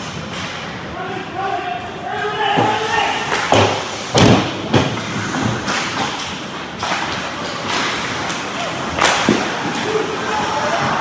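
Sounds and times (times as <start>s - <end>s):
noisy rink ambience: 0.0s - 11.0s
thuds and knocks of hockey play: 0.0s - 11.0s.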